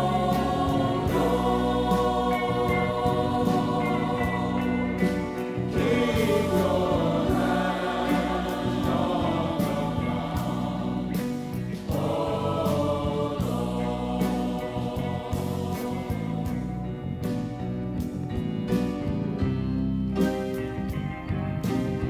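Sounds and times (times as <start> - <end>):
gospel choir singing: 0.0 - 17.9
band accompaniment: 0.0 - 22.0.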